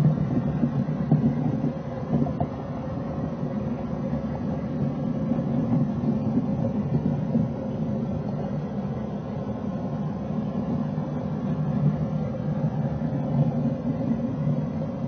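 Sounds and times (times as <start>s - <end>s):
faint steady hum: 0.0s - 15.0s
model train rumbling: 0.0s - 15.0s.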